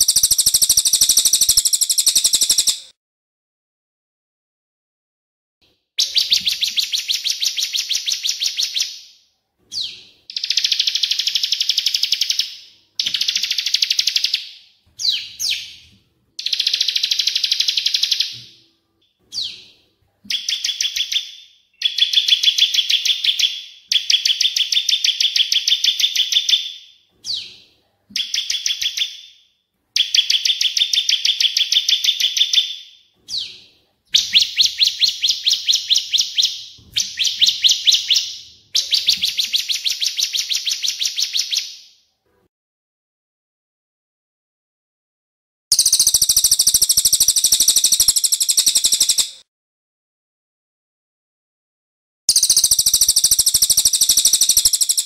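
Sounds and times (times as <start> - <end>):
buzzy trilled birdsong: 0.0 - 2.9, 6.0 - 41.9, 45.7 - 49.4, 52.3 - 55.0.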